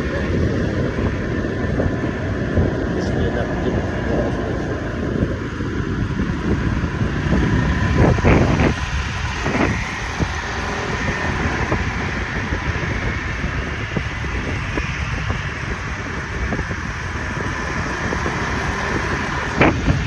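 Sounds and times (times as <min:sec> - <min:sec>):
motorbike engine rumble: 0:00.0 - 0:20.0
wind buffeting microphone: 0:00.0 - 0:20.0.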